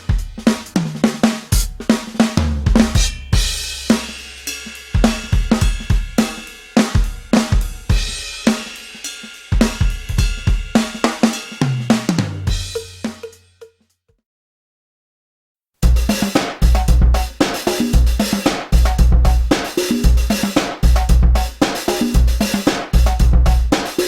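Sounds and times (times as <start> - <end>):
drum kit groove: 0.0 - 13.8, 15.8 - 24.0.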